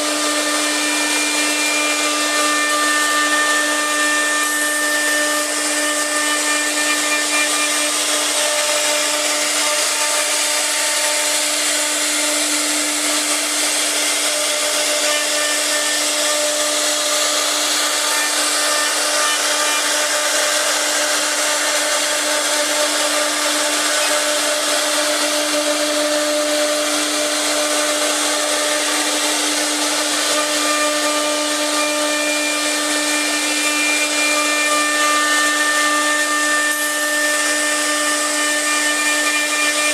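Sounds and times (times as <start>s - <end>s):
router spindle whining: 0.0s - 39.9s
wood cutting noise: 0.0s - 39.9s.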